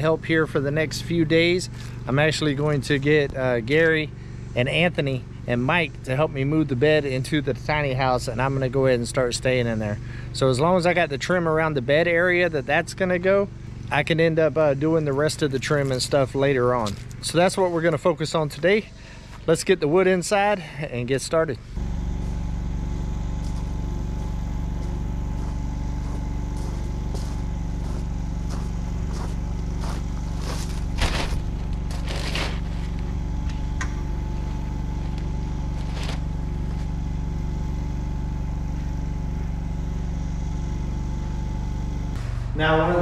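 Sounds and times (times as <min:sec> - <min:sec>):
motor humming: 0:00.0 - 0:43.0.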